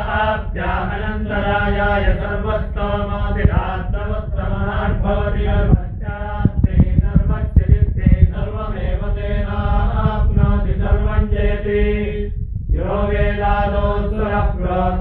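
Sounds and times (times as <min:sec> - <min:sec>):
dull low knocks: 0:00.0 - 0:14.9
mantra chanting: 0:00.0 - 0:15.0.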